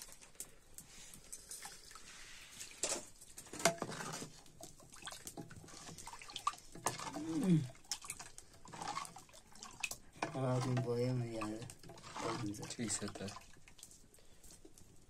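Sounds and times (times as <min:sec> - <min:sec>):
liquid sloshing in pot: 0:00.0 - 0:15.0.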